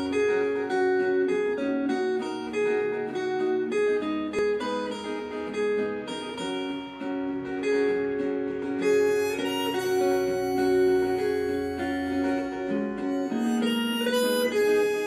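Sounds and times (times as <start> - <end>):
acoustic guitar picking melody: 0.0 - 15.0.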